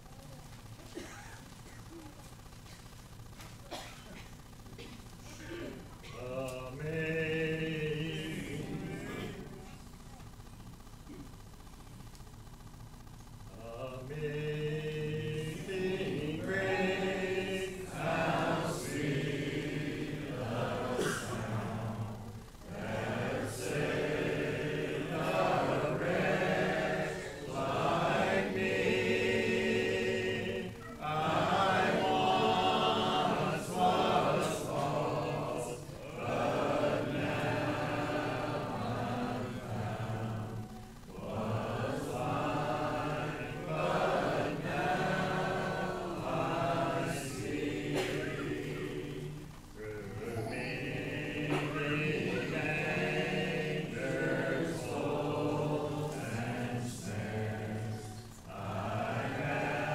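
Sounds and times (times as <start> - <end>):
congregation singing a hymn: 5.5 - 9.6, 13.4 - 59.9.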